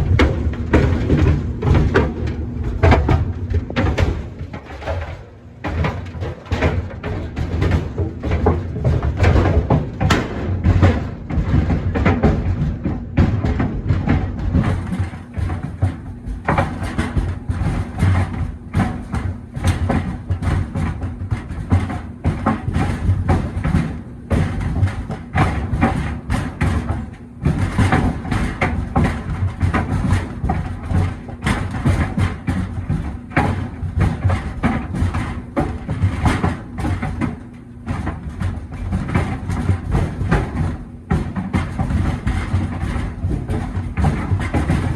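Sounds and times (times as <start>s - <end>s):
boots thudding in a dryer drum: 0.0s - 44.9s.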